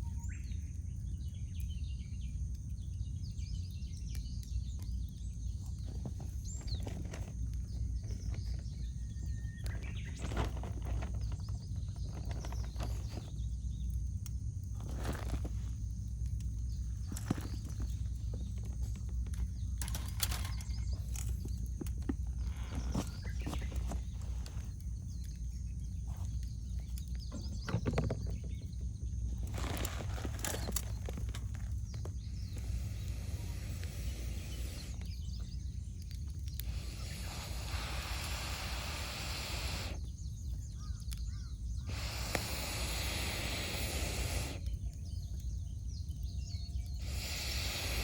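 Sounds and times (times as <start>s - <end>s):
campfire hissing: 0.0s - 48.0s
small birds chirping faintly: 0.0s - 48.0s
steady low rumble: 0.0s - 48.0s
wood fire crackling and popping: 0.0s - 48.0s.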